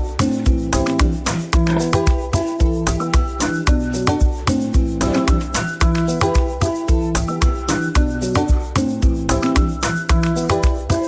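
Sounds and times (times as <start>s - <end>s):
afrobeat dance music: 0.0s - 11.0s.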